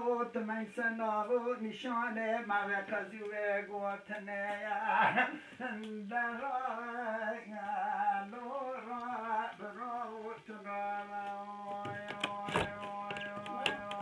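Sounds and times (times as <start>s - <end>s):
man singing long held notes: 0.0s - 14.0s.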